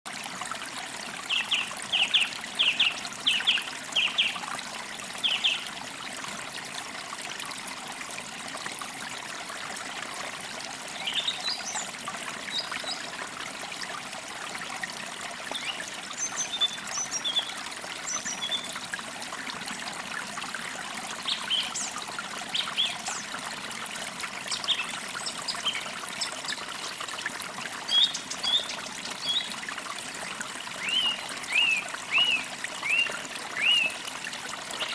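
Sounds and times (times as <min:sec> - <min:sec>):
stream trickling: 0:00.1 - 0:34.9.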